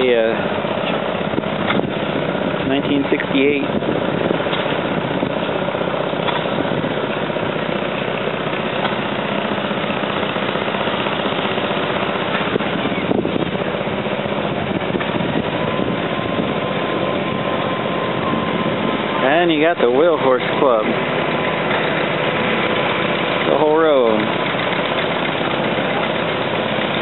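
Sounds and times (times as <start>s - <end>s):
engine rattling steadily: 0.0s - 27.0s
thin steady whine: 0.0s - 27.0s.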